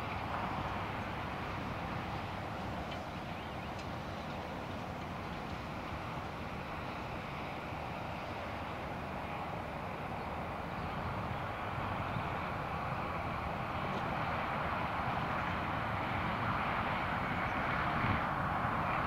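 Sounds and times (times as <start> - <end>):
distant tractor engine under load: 0.0 - 19.0.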